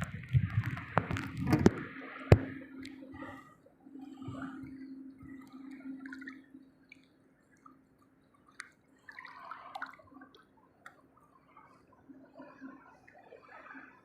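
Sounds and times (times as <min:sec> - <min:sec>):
faint steady hum: 0:00.0 - 0:14.0
water dripping and lapping: 0:00.0 - 0:14.0
water splashing: 0:00.0 - 0:14.0.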